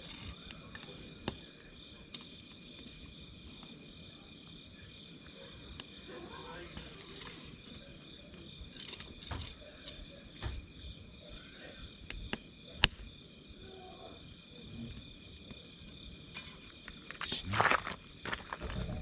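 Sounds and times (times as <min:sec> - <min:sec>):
campfire crackling and popping: 0:00.0 - 0:13.5, 0:14.9 - 0:19.0.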